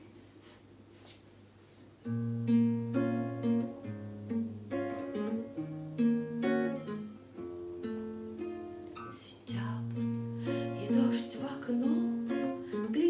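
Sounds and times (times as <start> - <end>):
acoustic guitar playing: 2.0 - 13.0.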